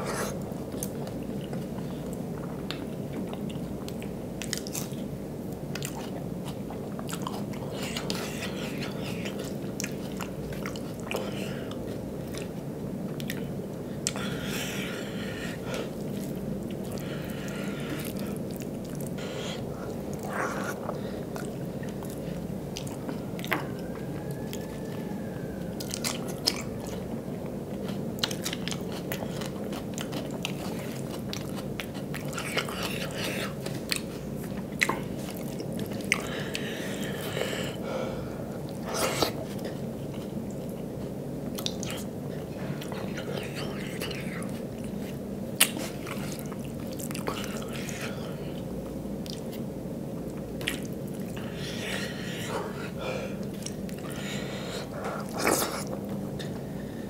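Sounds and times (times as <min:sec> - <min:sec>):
person chewing with lip smacks: 0:00.1 - 0:14.4, 0:17.8 - 0:24.9, 0:25.8 - 0:37.4, 0:38.7 - 0:54.2.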